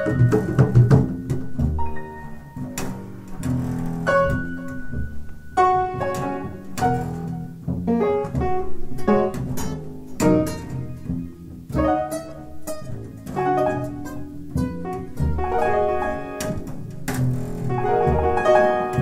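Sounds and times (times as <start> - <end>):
piano notes: 0.0 - 19.0
upright bass plucked: 0.0 - 19.0.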